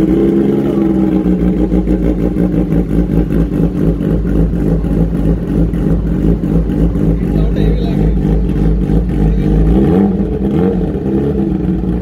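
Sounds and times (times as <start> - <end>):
motorcycle engine idling loudly: 0.0 - 12.0.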